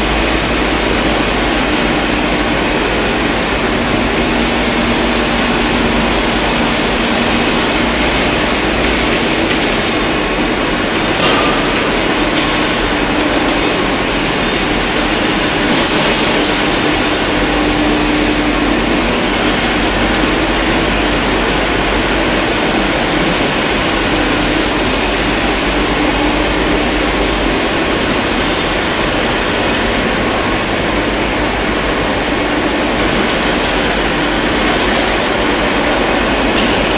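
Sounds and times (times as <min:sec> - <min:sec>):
factory machinery running: 0:00.0 - 0:36.9.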